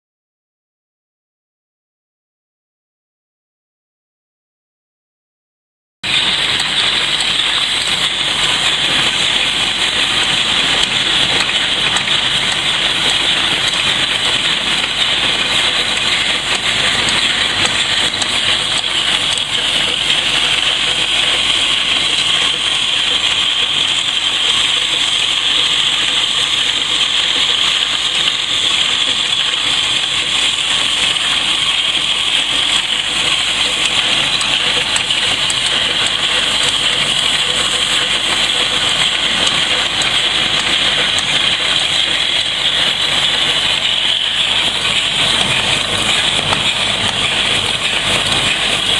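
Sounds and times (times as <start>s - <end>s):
machine running with high hiss: 6.0s - 48.9s.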